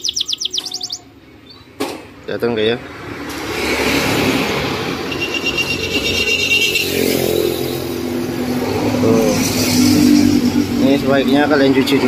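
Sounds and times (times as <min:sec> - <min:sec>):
motor vehicle running: 0:00.0 - 0:12.0.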